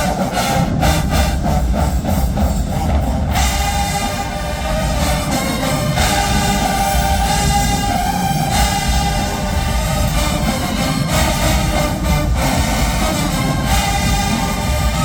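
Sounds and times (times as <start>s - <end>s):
brass section holding loud chords: 0.0s - 15.0s
drumline beat: 0.0s - 15.0s.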